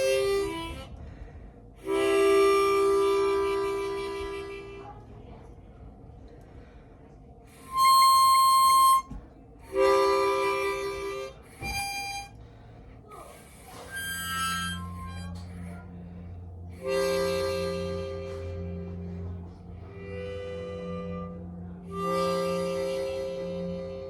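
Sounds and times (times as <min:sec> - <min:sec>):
instrument playing held notes: 0:00.0 - 0:01.0, 0:01.8 - 0:05.0, 0:07.6 - 0:12.4, 0:13.1 - 0:24.0
low steady hum: 0:00.0 - 0:24.0.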